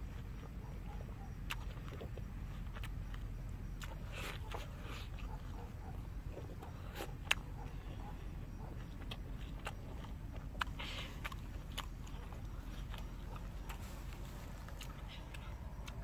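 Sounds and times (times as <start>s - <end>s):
chewing with mouth clicks: 0.0s - 16.0s
low background rumble: 0.0s - 16.0s.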